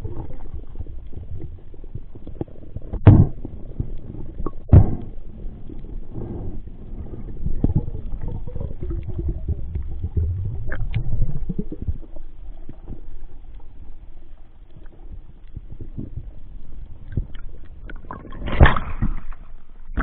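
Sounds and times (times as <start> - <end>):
underwater rumbling and gurgling: 0.0 - 20.0.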